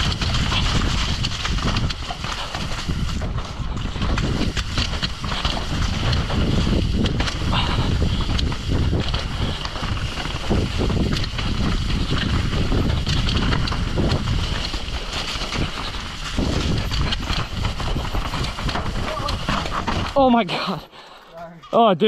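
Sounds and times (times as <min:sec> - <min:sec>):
wind buffeting microphone: 0:00.0 - 0:20.4
bike clattering over bumps: 0:00.0 - 0:21.1
bike tyre noise on dirt: 0:00.0 - 0:22.0.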